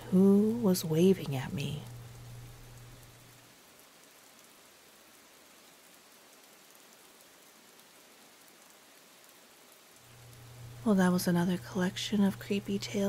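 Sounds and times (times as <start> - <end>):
rain on wet pavement: 0.1 - 13.0.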